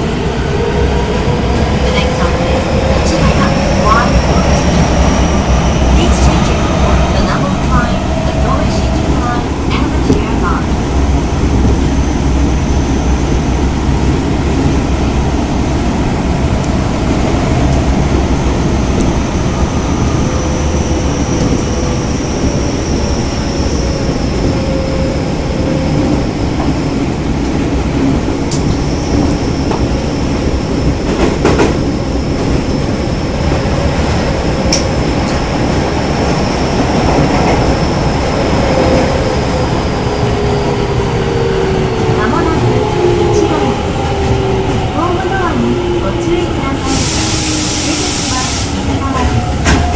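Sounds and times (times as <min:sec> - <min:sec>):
subway wheel and motor rumble: 0:00.0 - 0:49.9.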